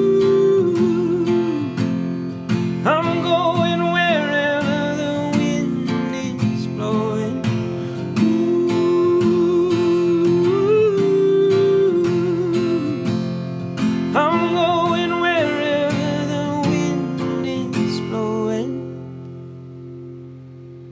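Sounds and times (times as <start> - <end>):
strummed acoustic guitar: 0.0 - 20.9
wordless sung notes: 0.0 - 20.9.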